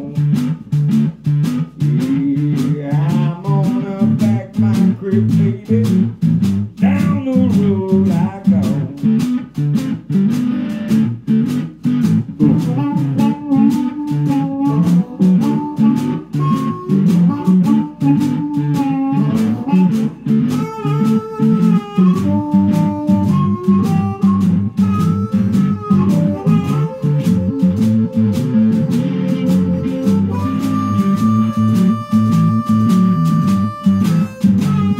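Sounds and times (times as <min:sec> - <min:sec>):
blues band playing: 0:00.0 - 0:34.9
harmonica melody: 0:01.2 - 0:06.2, 0:06.8 - 0:34.9.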